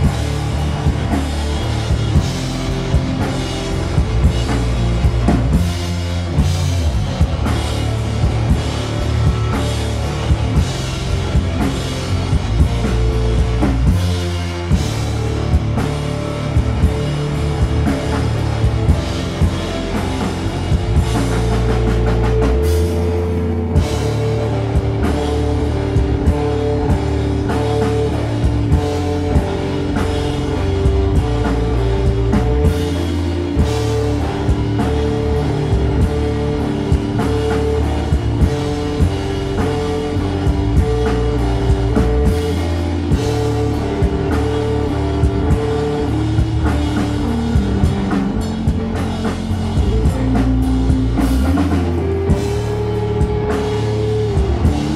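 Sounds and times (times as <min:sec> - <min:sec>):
rock band playing live: 0:00.0 - 0:54.9.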